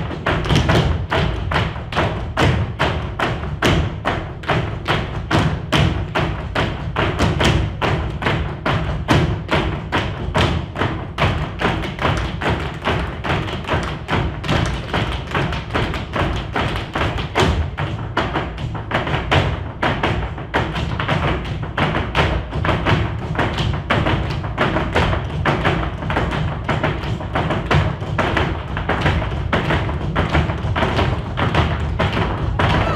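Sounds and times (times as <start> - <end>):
music: 0.0 - 32.9
shoes stamping on stage floor: 0.0 - 32.9.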